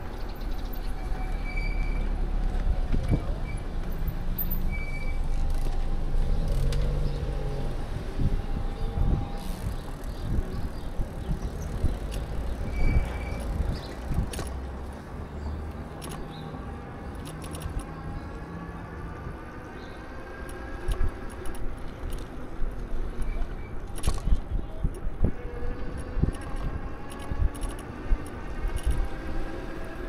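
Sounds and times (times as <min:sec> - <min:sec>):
e-bike ride rumble: 0:00.0 - 0:30.0.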